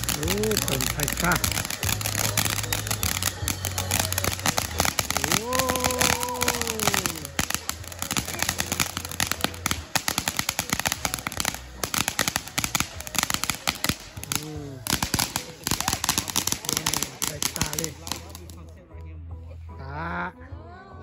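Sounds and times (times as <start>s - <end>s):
firework crackling: 0.0s - 18.8s.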